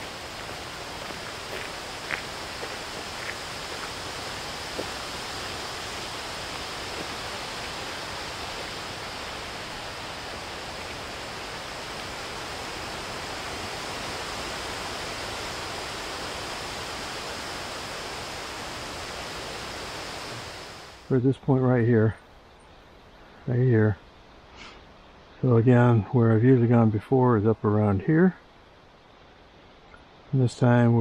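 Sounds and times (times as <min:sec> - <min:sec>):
wind blowing through trees: 0:00.0 - 0:31.0.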